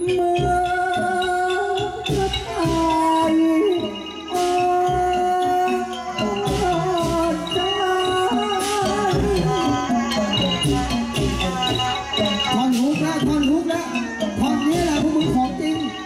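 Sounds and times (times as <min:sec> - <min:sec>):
drum strikes: 0:00.0 - 0:16.0
rattling percussion: 0:00.0 - 0:16.0.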